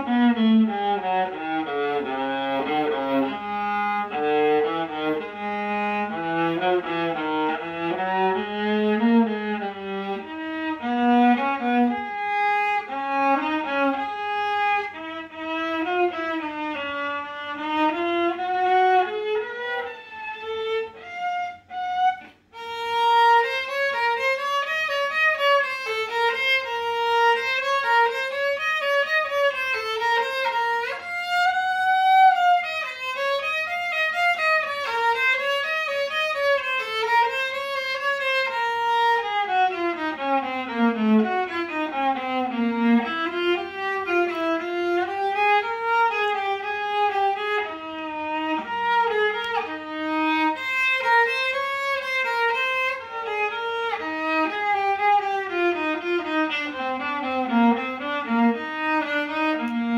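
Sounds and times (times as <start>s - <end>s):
solo violin playing: 0.0s - 59.9s.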